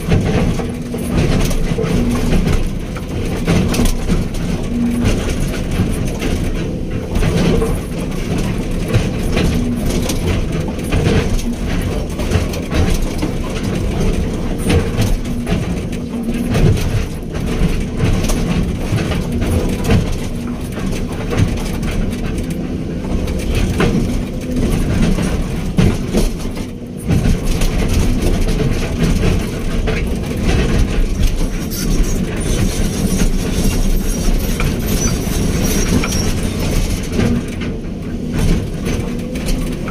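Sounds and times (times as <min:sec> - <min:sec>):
diesel engine running: 0:00.0 - 0:39.9
metallic clanking and rattling: 0:00.0 - 0:39.9.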